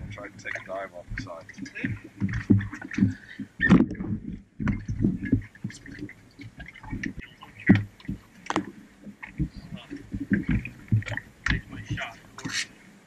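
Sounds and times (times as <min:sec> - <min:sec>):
knocks and thumps on boat hull: 0:00.0 - 0:12.6.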